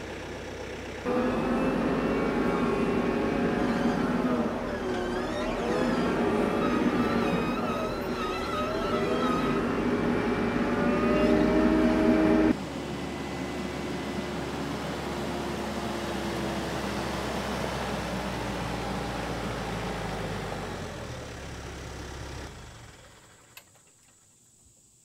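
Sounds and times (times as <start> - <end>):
tractor diesel engine running: 0.0 - 23.7.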